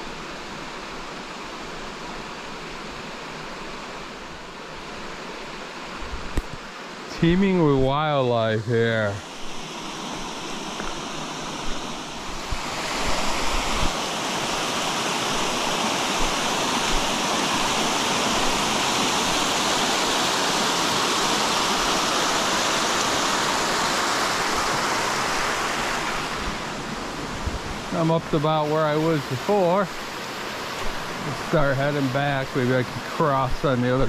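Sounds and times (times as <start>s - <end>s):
small waterfall splashing: 0.0s - 34.0s.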